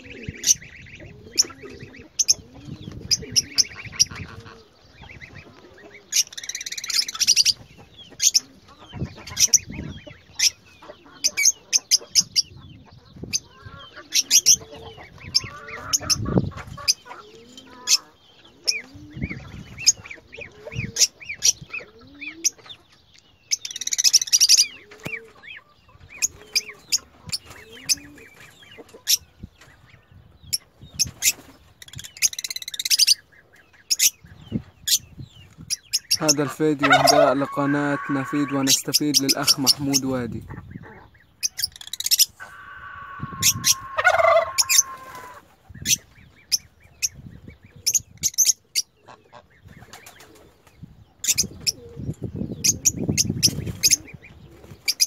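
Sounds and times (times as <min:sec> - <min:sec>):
lovebirds chirping and chattering: 0:00.0 - 0:55.0.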